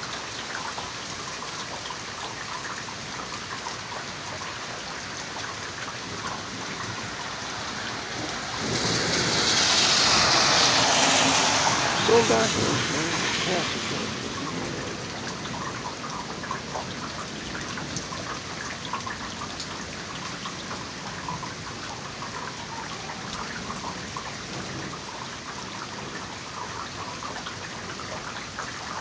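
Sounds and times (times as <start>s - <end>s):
rain falling steadily: 0.0s - 29.0s
raindrops ticking close by: 0.0s - 29.0s.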